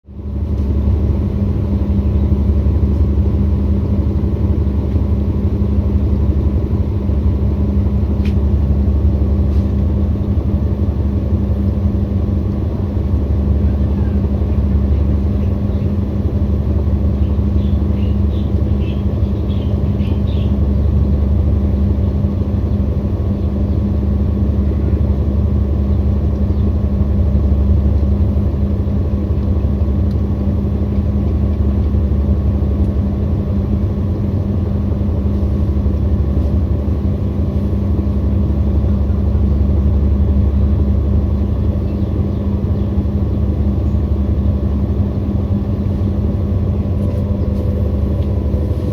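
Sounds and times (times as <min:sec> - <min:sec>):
washing machine spinning: 0:00.2 - 0:48.9.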